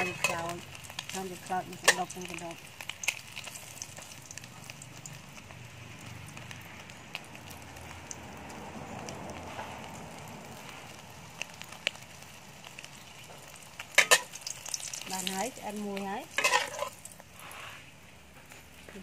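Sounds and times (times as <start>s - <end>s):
omelette frying hiss: 0.0s - 19.0s.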